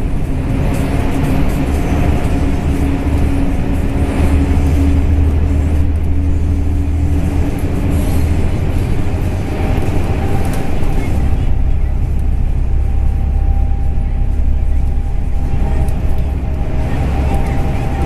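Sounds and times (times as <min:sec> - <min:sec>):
bus engine drone: 0:00.0 - 0:18.0
road and body noise: 0:00.0 - 0:18.0
humming tone: 0:00.9 - 0:18.0.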